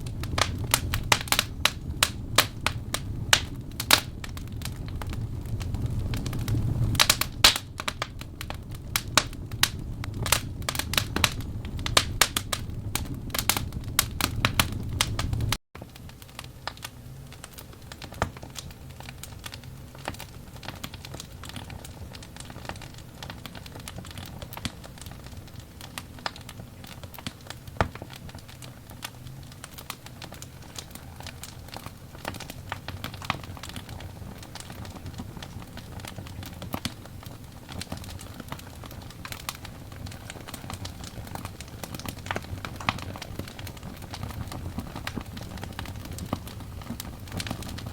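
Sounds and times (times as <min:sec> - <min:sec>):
burning logs crackling and popping: 0:00.0 - 0:47.9
low rumble of flames: 0:00.0 - 0:47.9.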